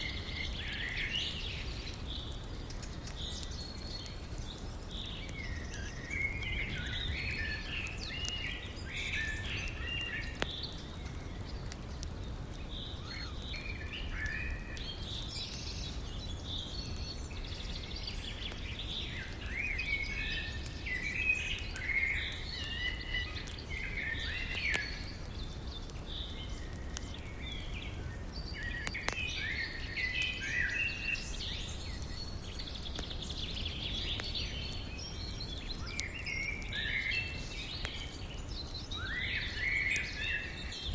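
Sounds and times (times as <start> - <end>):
campfire crackles: 0.0 - 40.9.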